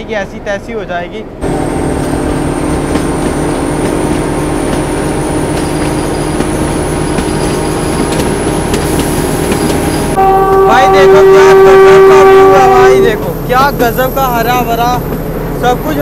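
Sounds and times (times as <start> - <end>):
diesel locomotive engine drone: 0.0 - 16.0
wheel and rail rumble: 0.0 - 16.0.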